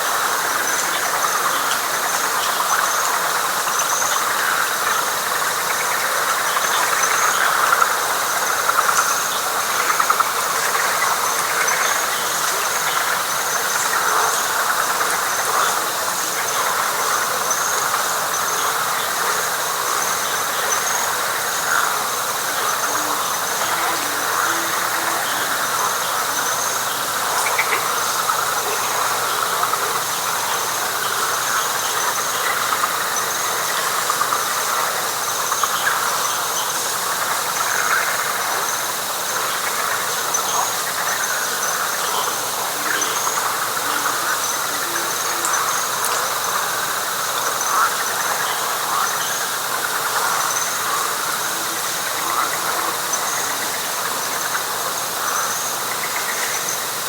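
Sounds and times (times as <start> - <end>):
frogs calling: 0.0 - 57.0.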